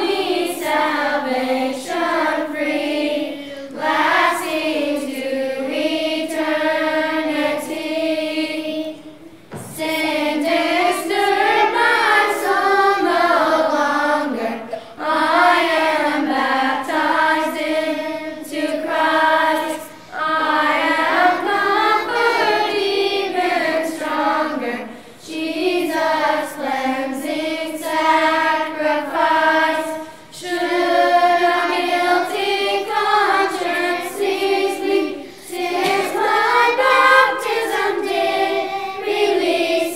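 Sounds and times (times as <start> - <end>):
children's choir singing a hymn: 0.0 - 39.9.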